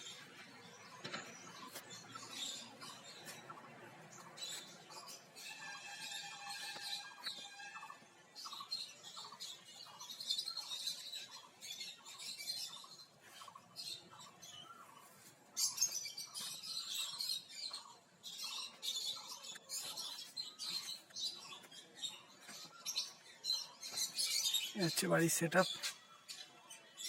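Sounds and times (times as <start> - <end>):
lovebirds chattering and chirping: 0.0 - 27.0.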